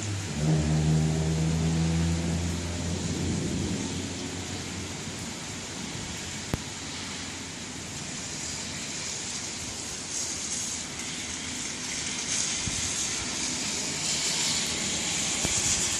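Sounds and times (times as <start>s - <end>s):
rain: 0.0s - 15.9s
wind gusts: 0.0s - 15.9s.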